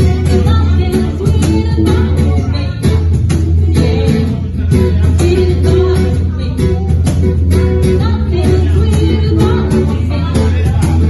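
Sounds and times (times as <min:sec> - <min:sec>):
person singing: 0:00.0 - 0:07.1, 0:07.8 - 0:11.0
live band playing pop song: 0:00.0 - 0:11.0.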